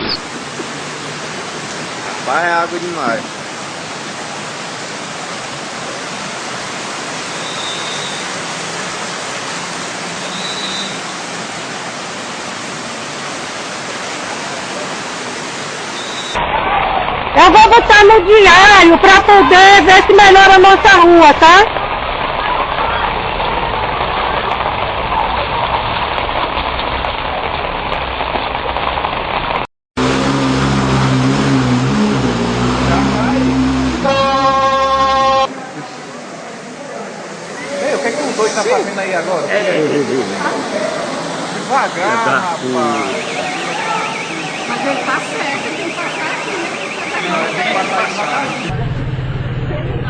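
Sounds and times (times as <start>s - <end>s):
rushing floodwater: 0.0s - 49.2s.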